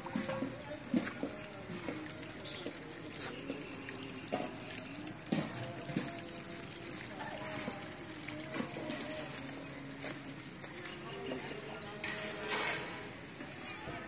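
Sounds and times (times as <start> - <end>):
water splashing and gurgling in a well: 0.0 - 13.5.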